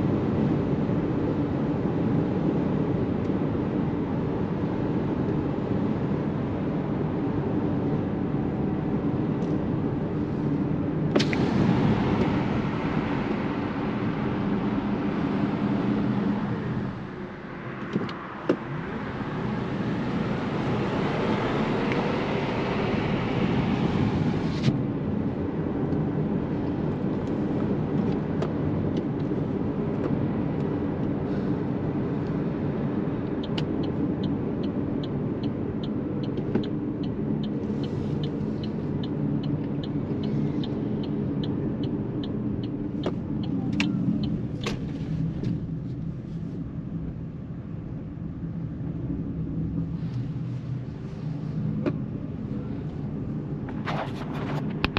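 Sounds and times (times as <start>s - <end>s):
car road and tyre rumble: 0.0s - 54.9s.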